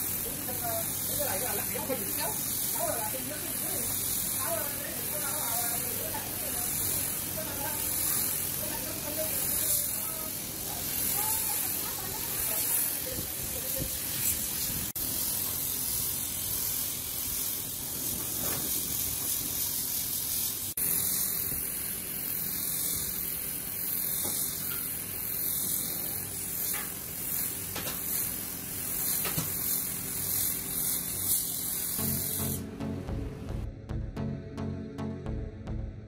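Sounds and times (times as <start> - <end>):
steady hissing noise: 0.0 - 32.7.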